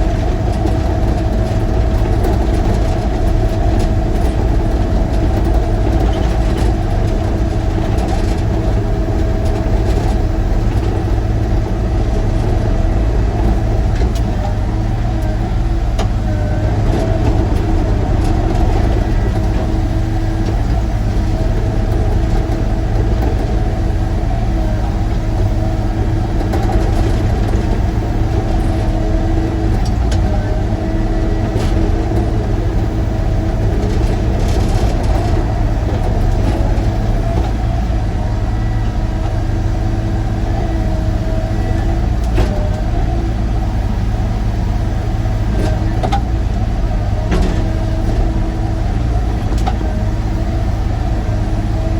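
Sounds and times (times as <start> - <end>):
engine whine: 0.0 - 51.9
excavator diesel engine running: 0.0 - 51.9.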